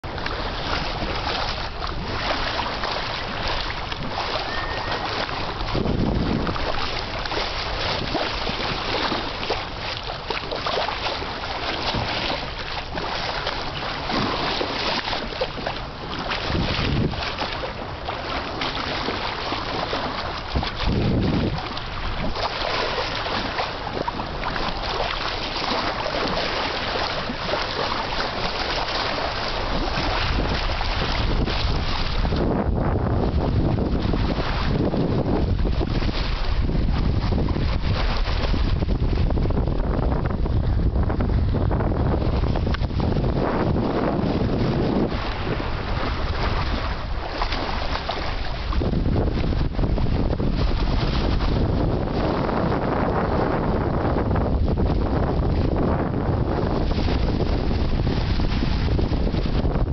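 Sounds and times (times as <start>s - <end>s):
water rushing past boat hull: 0.0s - 59.9s
wind on microphone: 0.0s - 59.9s.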